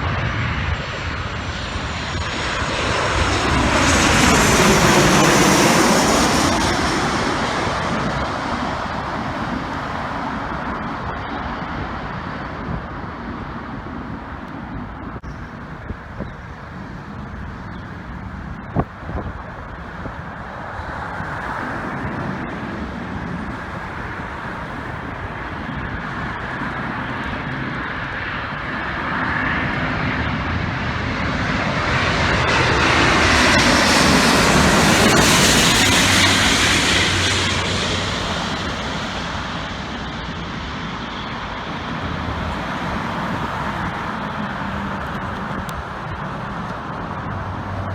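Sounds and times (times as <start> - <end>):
jet airliner passing overhead: 0.0 - 47.9
road traffic: 0.0 - 47.9
wind noise: 0.0 - 47.9.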